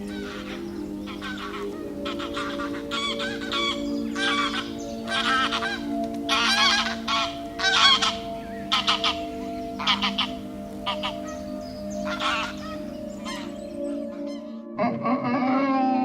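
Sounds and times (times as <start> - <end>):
background music with held notes: 0.0 - 16.0
geese honking: 0.0 - 16.0.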